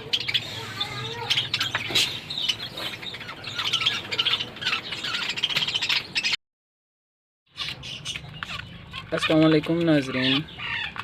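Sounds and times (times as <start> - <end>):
cage birds chirping: 0.0 - 6.4, 7.5 - 11.0.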